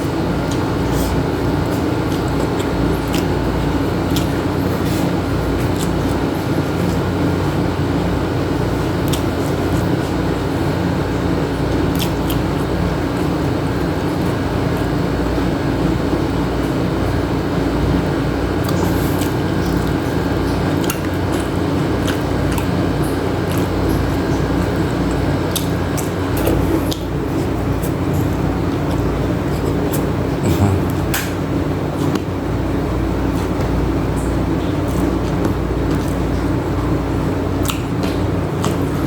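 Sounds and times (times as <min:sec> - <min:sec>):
wet chewing: 0:00.0 - 0:16.2, 0:17.5 - 0:39.0
mechanical hum: 0:00.0 - 0:39.0.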